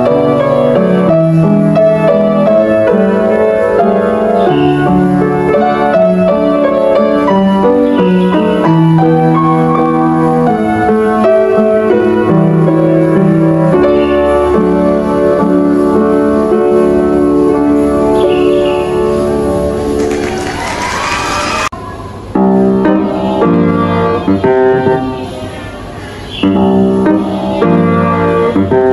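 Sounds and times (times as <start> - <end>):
upright piano playing: 0.0 - 28.9.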